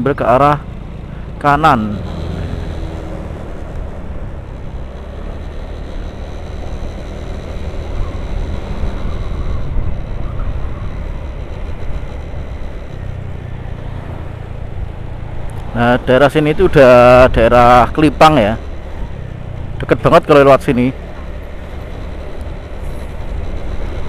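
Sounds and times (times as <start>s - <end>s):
wind and road noise: 0.0s - 24.0s
scooter engine running: 0.2s - 24.0s.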